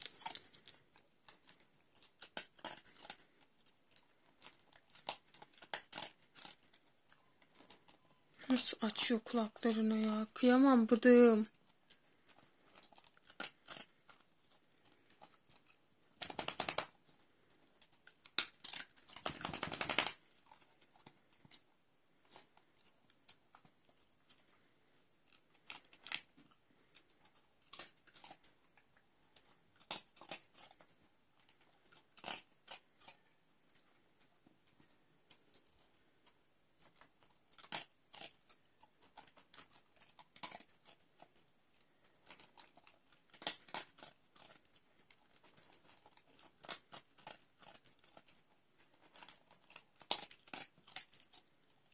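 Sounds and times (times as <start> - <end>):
dog crunching dry kibble: 0.0 - 51.9.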